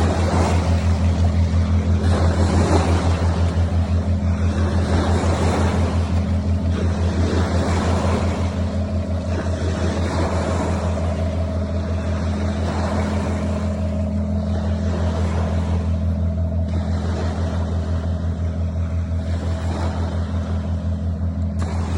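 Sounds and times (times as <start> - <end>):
low pulsing engine drone: 0.0 - 21.9.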